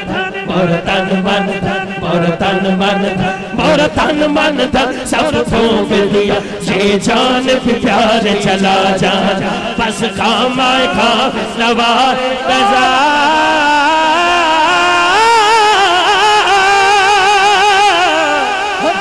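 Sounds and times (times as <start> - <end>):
chorus voices: 0.0 - 19.0
man chanting devotional song: 0.0 - 19.0.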